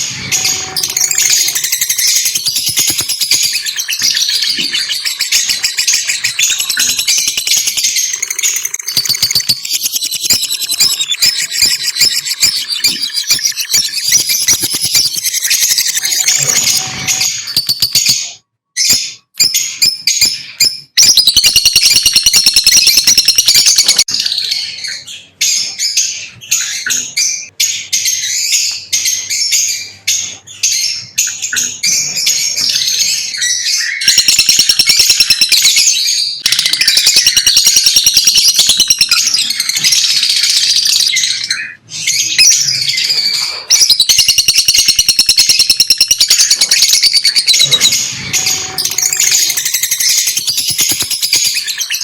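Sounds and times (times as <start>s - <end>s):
lovebirds chirping: 0.0s - 52.0s.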